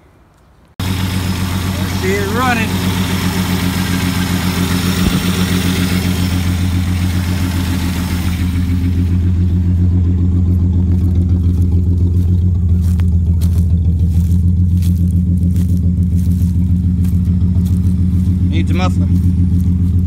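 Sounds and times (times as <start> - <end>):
car engine running: 0.8 - 20.0.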